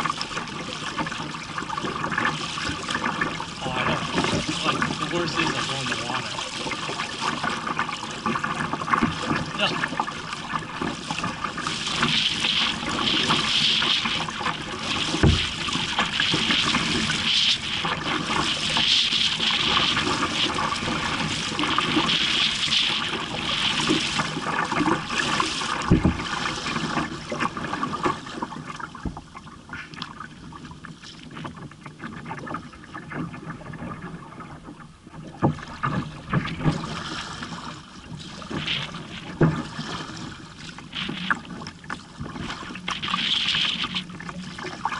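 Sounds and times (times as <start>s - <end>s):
paddle strokes splashing: 0.0s - 44.9s
water slapping against hull: 0.0s - 44.9s.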